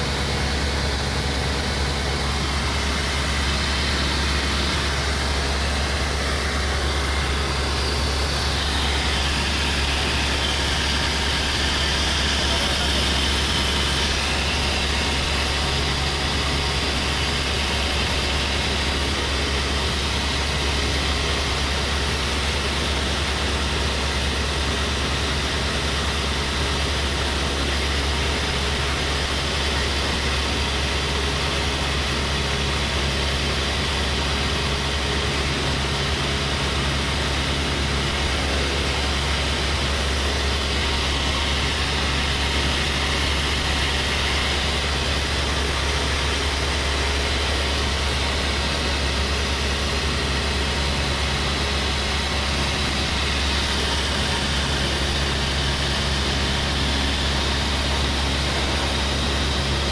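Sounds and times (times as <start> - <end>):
propeller airplane engine drone: 0.0 - 59.9.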